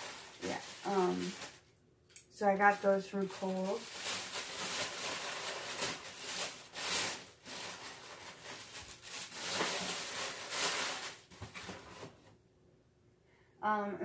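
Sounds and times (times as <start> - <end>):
plastic bag rustling: 0.0 - 1.7, 2.5 - 12.3.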